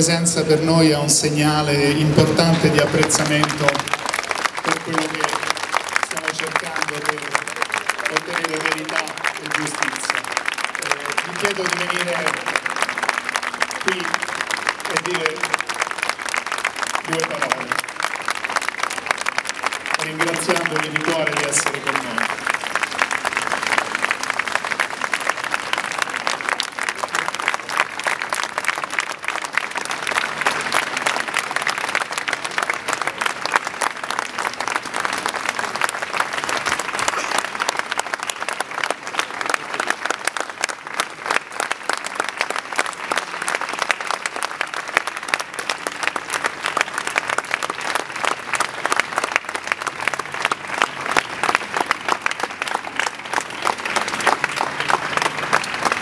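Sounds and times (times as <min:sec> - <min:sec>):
crowd applauding: 0:00.0 - 0:56.0.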